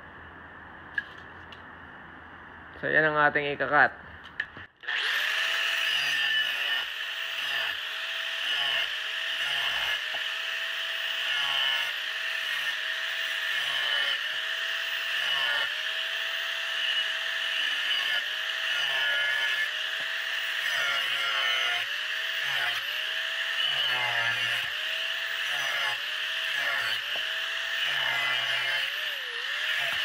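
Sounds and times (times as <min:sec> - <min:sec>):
angle grinder cutting steel: 0:04.7 - 0:30.0.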